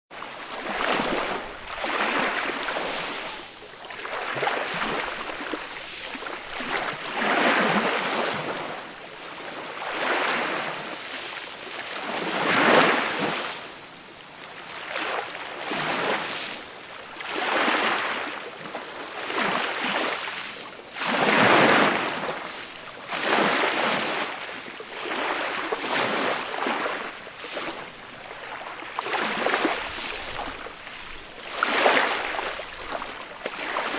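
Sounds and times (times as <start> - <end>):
gentle sea waves breaking: 0.1 - 33.9.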